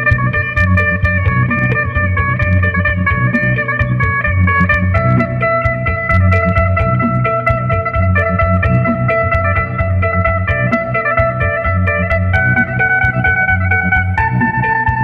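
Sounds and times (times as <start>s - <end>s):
amplified plucked lute melody: 0.0s - 15.0s
drone note: 0.0s - 15.0s
low bass pulse: 0.0s - 15.0s.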